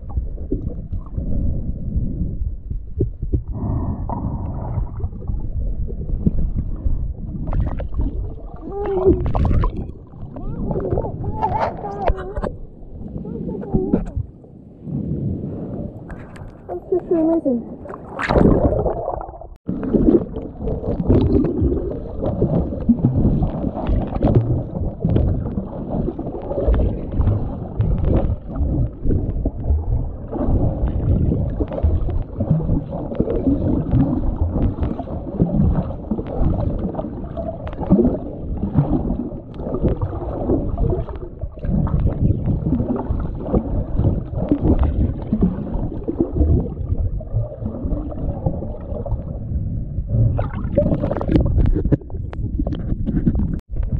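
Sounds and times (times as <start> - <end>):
underwater churning and bubbling: 0.0 - 53.9.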